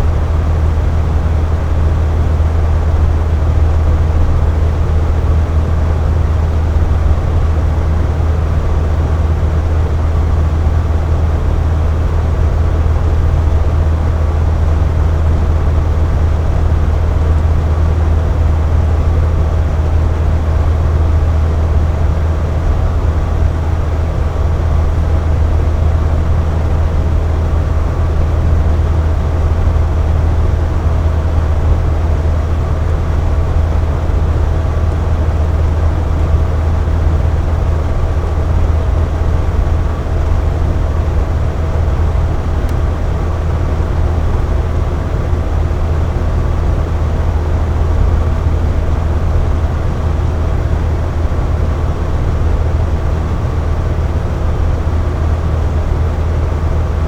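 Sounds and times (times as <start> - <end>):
air conditioner hum: 0.0 - 57.0.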